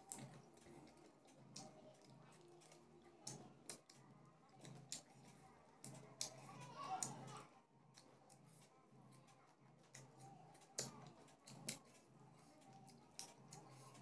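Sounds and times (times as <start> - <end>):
faint room noise: 0.0 - 14.0.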